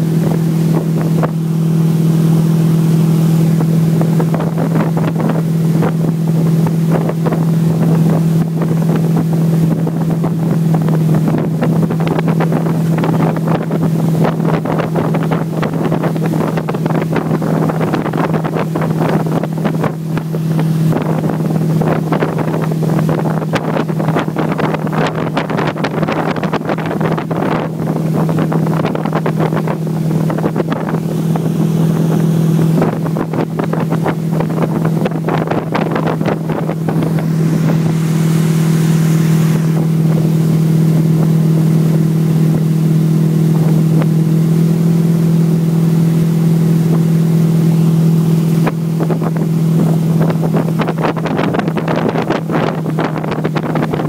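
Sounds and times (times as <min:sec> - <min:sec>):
boat engine humming: 0:00.0 - 0:54.0
splash of boat wake: 0:00.0 - 0:54.0
wind buffeting microphone: 0:00.0 - 0:54.0.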